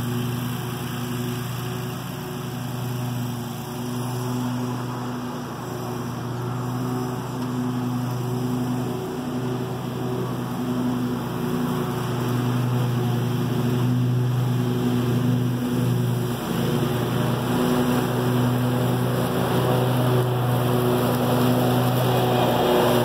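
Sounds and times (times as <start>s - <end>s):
lawn mower engine hum: 0.0s - 23.0s.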